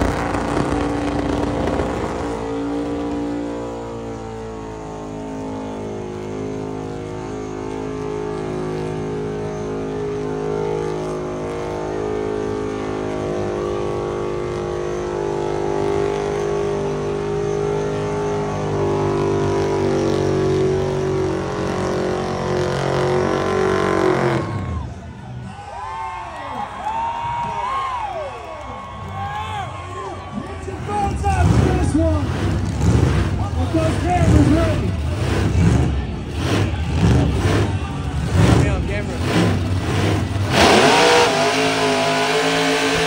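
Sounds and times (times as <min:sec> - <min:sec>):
supercharged engine revving: 0:00.0 - 0:24.7, 0:30.8 - 0:43.0.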